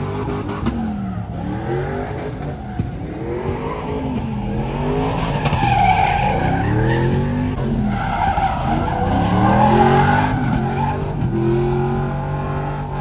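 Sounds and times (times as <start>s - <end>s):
tires squealing on pavement: 0.0s - 13.0s
truck engine revving: 0.0s - 13.0s.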